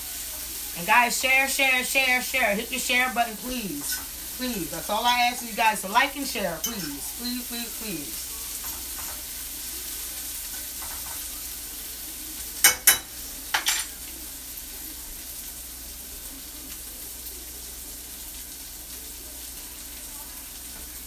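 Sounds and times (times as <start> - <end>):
onions sizzling in a frying pan: 0.0 - 21.0.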